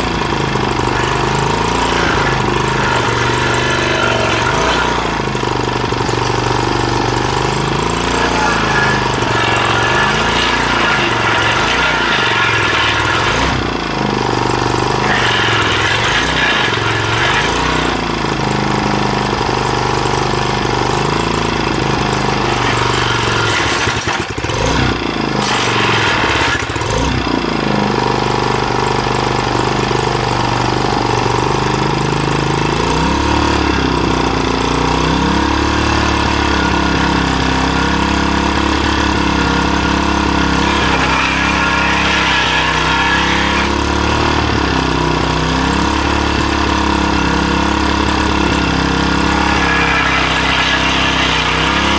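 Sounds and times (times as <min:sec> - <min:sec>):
small gasoline engine running: 0:00.0 - 0:51.9.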